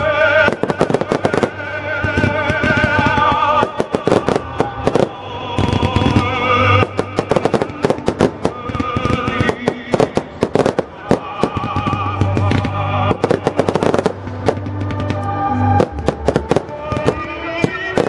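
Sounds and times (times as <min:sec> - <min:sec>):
fireworks bangs: 0:00.0 - 0:18.0
music with sustained notes: 0:00.0 - 0:18.0.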